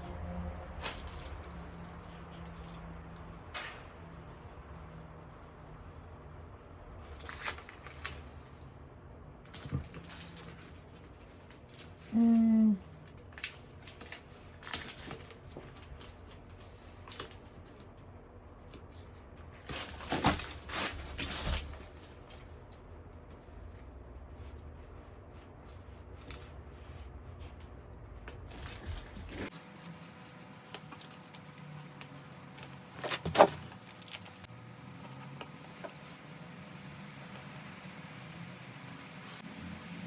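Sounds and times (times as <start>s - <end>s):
rustling and crinkling: 0.0s - 8.7s, 9.3s - 39.5s.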